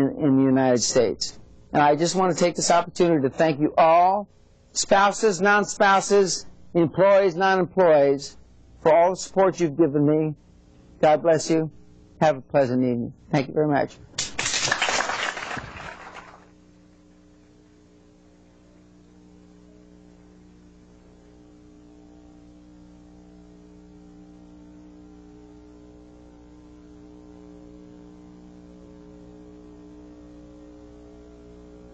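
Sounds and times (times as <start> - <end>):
electrical mains hum: 0.0 - 31.9.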